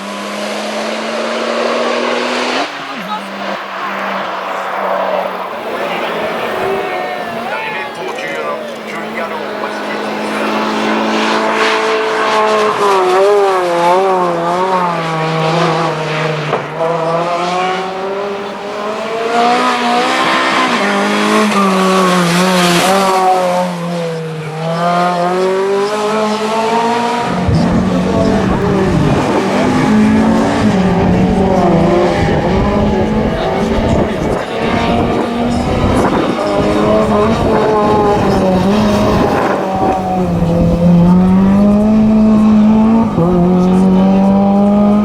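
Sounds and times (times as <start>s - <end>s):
deep rumble of passing car: 0.0s - 45.0s
racing car engine at full throttle: 0.0s - 45.0s.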